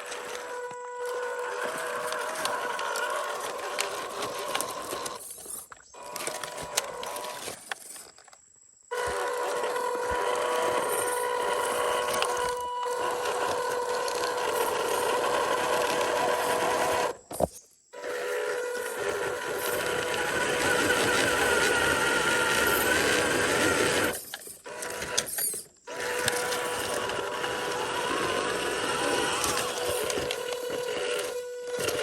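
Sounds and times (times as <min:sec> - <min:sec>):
small electric motor whining: 0:00.0 - 0:32.0.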